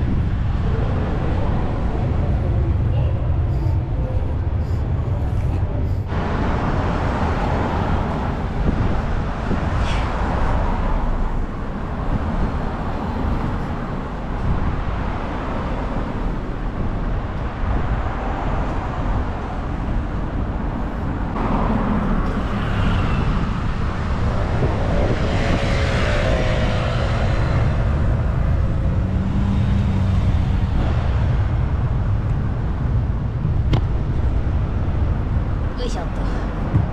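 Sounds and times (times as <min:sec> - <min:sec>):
road traffic noise: 0:00.0 - 0:36.9
wind rumble on microphone: 0:00.0 - 0:36.9.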